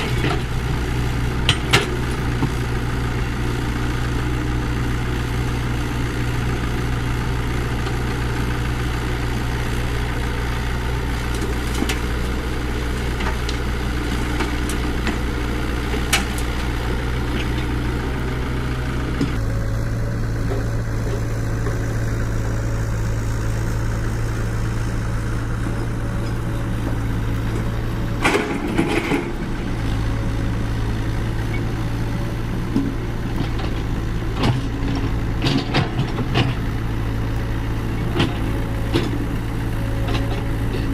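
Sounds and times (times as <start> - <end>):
construction machinery engine running: 0.0 - 40.9.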